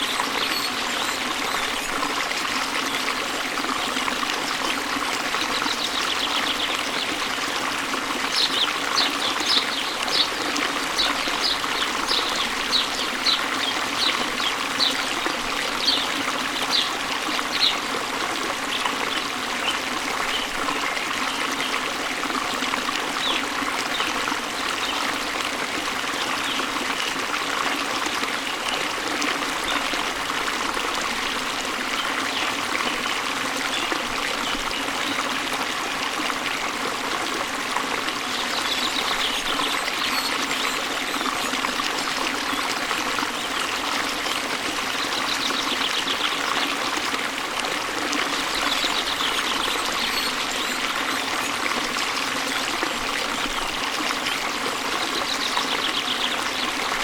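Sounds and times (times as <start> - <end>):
waterfall and stream running: 0.0 - 57.0.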